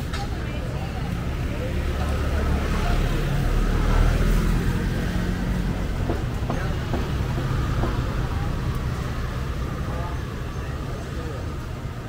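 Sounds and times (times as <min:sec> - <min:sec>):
street noise: 0:00.0 - 0:12.0
vehicle engine rumbling: 0:00.0 - 0:12.0.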